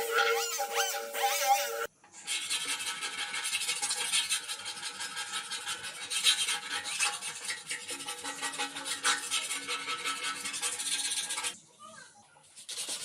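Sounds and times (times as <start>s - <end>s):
metal being filed by hand: 0.0s - 11.6s, 12.5s - 13.0s.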